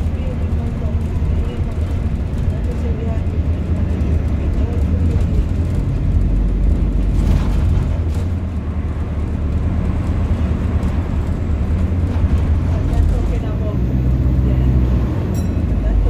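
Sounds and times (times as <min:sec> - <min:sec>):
bus cabin low rumble: 0:00.0 - 0:16.0.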